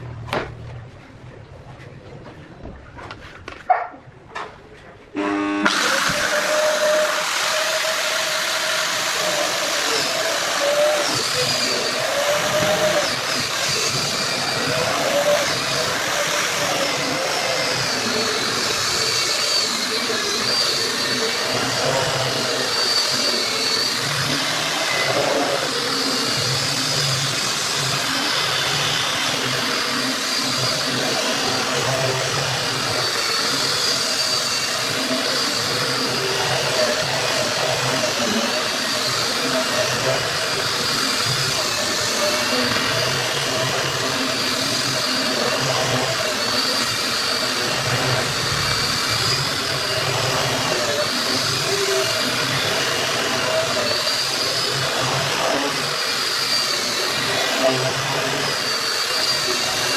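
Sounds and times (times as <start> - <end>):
angle grinder whining: 5.1 - 59.9.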